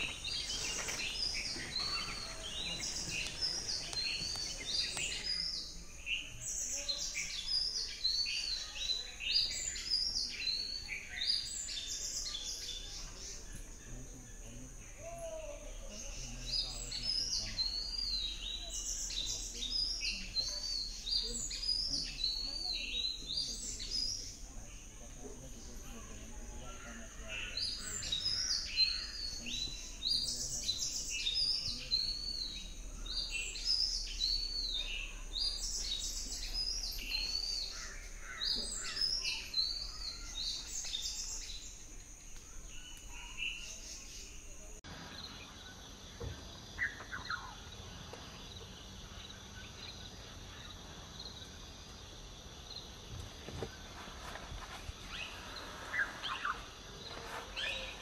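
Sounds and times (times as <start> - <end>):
birds chirping and calling: 0.0 - 52.9, 53.5 - 58.0
quiet forest background: 0.0 - 58.0.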